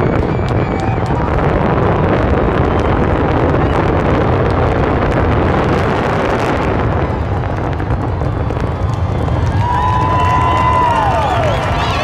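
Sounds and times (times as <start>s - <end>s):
fireworks bursting rumble: 0.0s - 12.0s
fireworks crackling: 0.0s - 12.0s.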